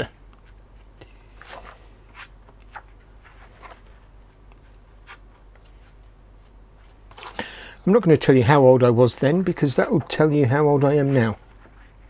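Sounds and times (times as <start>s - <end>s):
paper pages turning: 0.3s - 8.1s, 9.0s - 12.0s.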